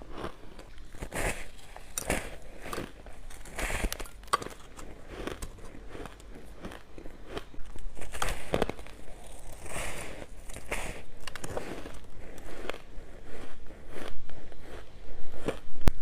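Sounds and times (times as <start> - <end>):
ice being bitten and chewed: 0.0 - 16.0.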